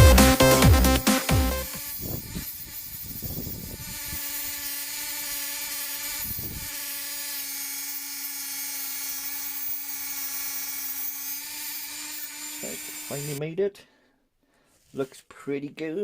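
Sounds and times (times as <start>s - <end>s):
power tool whining: 0.0s - 13.4s.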